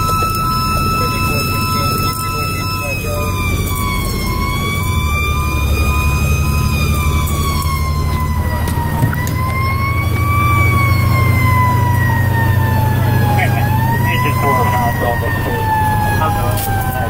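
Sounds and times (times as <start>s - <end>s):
fire engine siren wailing: 0.0s - 17.0s
truck engine drone: 0.0s - 17.0s.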